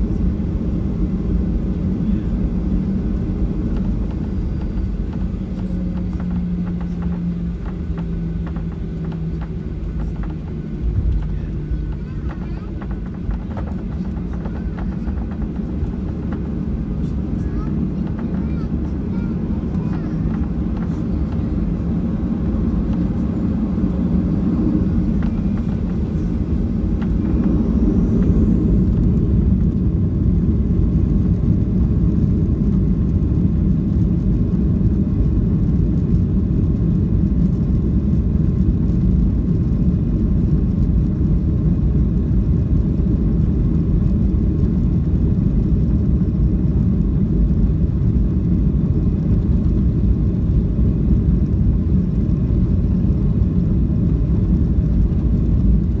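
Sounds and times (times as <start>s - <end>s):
jet engines and wheels rumbling: 0.0s - 56.0s.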